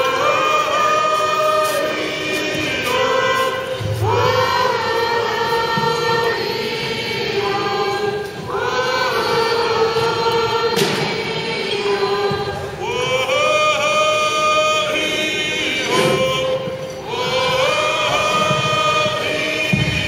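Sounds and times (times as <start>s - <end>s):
group singing long held phrases: 0.0s - 20.0s.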